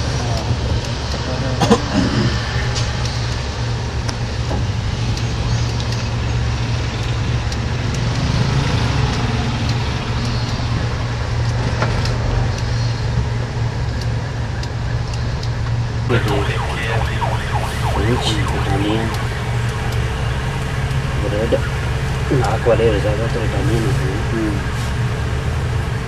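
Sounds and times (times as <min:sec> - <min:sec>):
van road and engine rumble: 0:00.0 - 0:18.0, 0:18.9 - 0:26.0.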